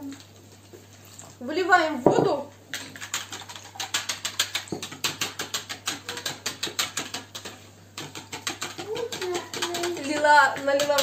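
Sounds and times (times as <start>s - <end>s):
whisk beating in plastic bowl: 2.2s - 11.0s.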